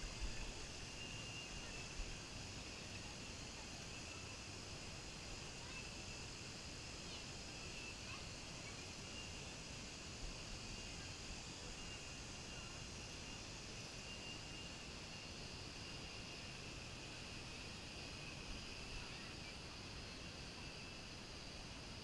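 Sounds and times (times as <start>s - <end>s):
insect chorus trilling: 0.0s - 22.0s.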